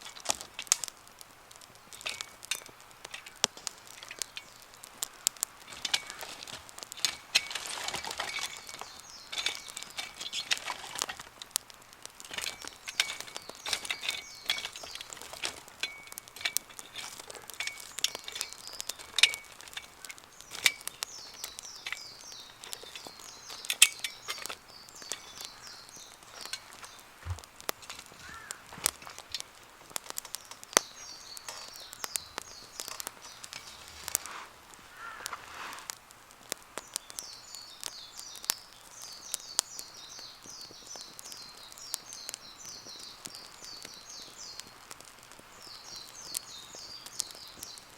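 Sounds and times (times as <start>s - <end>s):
birds chirping: 0.0s - 47.9s
campfire crackling and popping: 0.0s - 47.9s.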